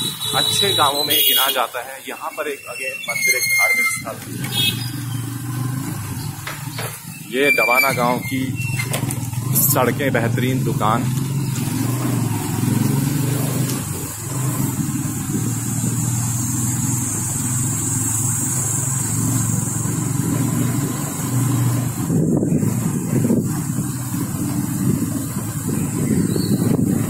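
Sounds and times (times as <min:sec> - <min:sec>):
motorbike engine running: 0:04.0 - 0:27.0.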